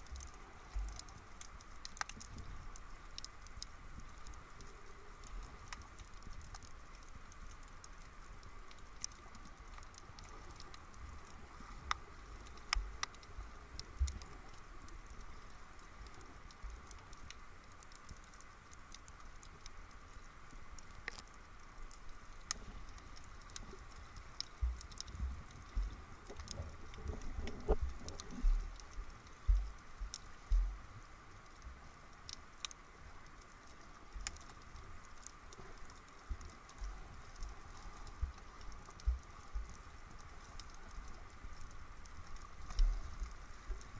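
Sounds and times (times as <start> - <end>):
faint underwater clicks and crackles: 0.0 - 43.9
steady hiss: 0.0 - 43.9.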